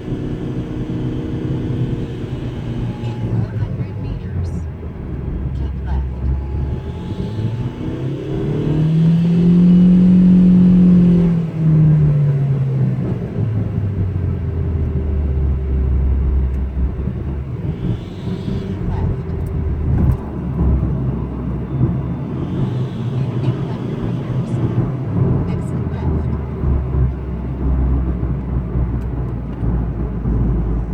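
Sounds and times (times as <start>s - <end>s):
car engine revving and idling: 0.0s - 30.9s.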